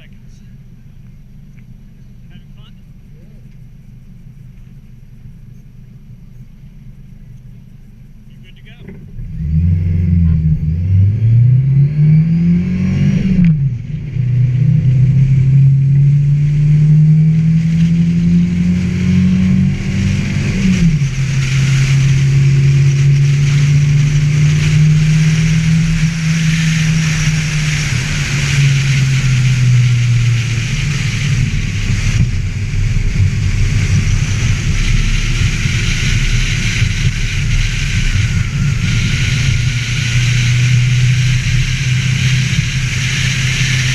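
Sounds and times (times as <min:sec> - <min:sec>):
car engine accelerating: 0:00.0 - 0:43.9
steady rushing noise: 0:01.9 - 0:43.9.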